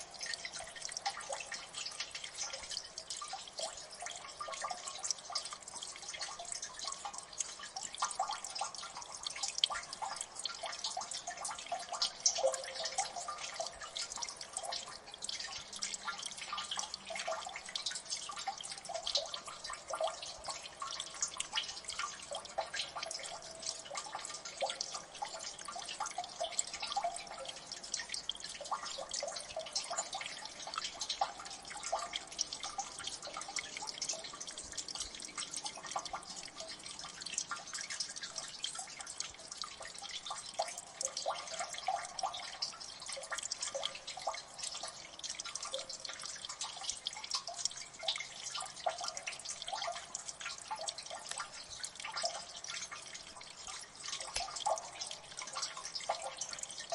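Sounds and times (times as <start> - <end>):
water dripping: 0.0 - 56.9.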